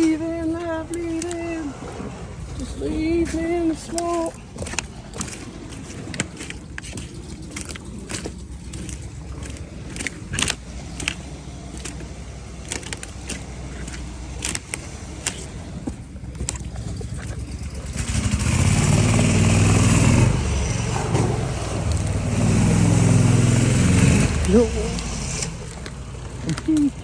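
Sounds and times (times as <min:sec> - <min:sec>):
boat motor running: 0:00.0 - 0:27.0.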